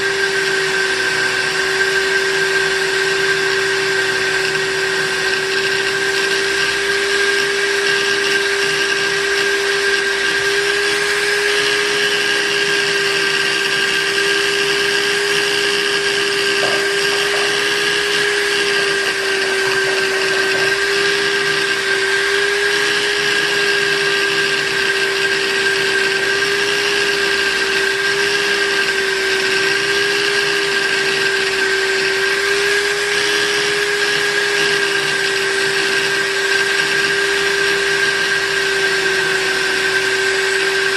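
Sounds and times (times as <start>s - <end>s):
buffing machine motor whine: 0.0s - 40.9s.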